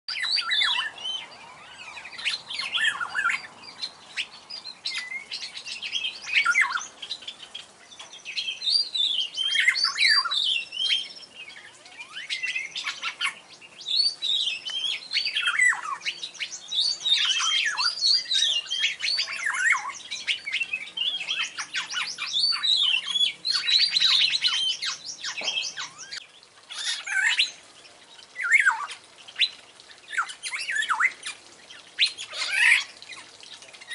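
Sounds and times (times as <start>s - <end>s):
bird singing whistles and trills: 0.1s - 27.6s, 28.4s - 33.9s.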